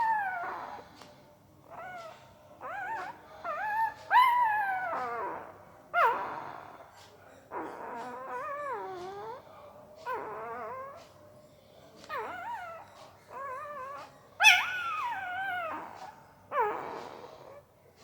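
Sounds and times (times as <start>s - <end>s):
puppy whimpering: 0.0s - 1.0s, 1.6s - 11.3s, 12.0s - 17.7s.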